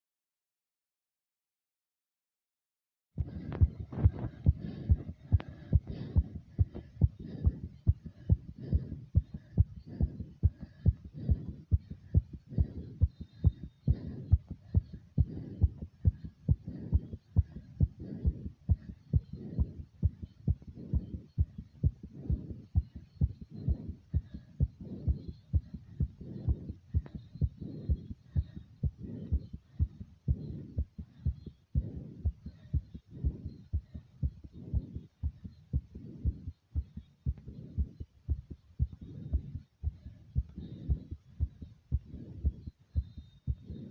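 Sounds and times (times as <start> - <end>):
faint breathing: 3.2 - 43.9
fast heartbeat thumps: 3.2 - 43.9.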